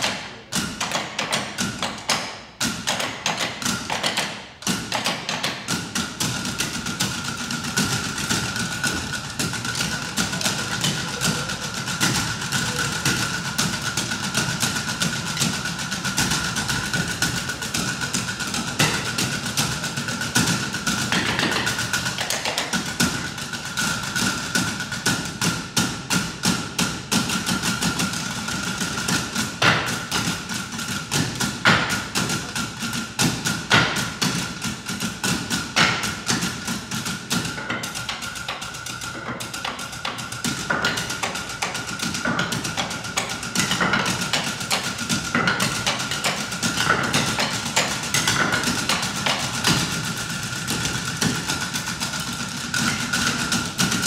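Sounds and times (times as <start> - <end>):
sticks drumming on wooden stools: 0.0 - 54.0.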